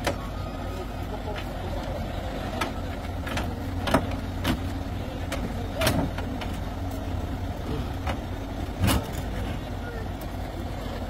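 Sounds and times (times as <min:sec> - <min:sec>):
crane engine idling: 0:00.0 - 0:11.0.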